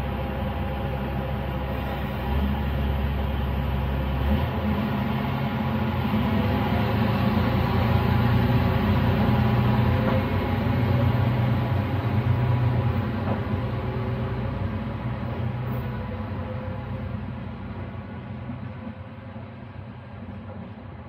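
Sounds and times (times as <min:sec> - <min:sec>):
railcar diesel engine drone: 0:00.0 - 0:21.0.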